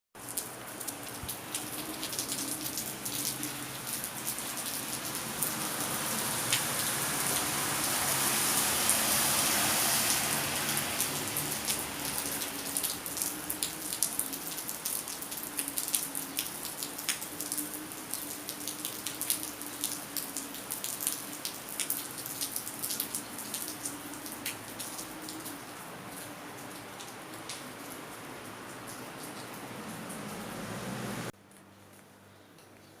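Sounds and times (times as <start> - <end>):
raindrops ticking on hard surface: 0.2 - 9.1, 10.0 - 30.6, 31.4 - 33.0
steady rain: 0.2 - 33.0.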